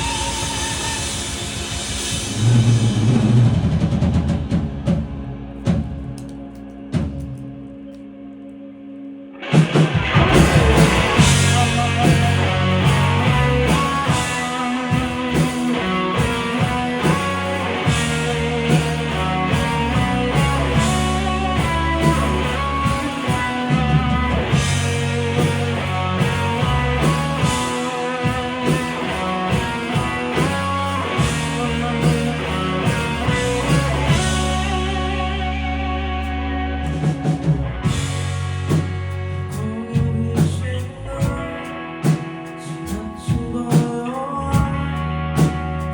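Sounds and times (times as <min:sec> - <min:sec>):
drum kit: 0:00.0 - 0:07.6, 0:09.4 - 0:45.9
bass guitar: 0:00.0 - 0:45.9
electric guitar: 0:00.0 - 0:45.9.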